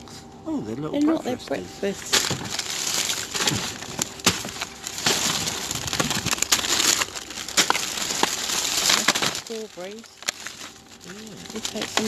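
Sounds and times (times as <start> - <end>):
plastic bags crinkling: 1.9 - 12.0
sharp crackles and clicks: 2.0 - 12.0.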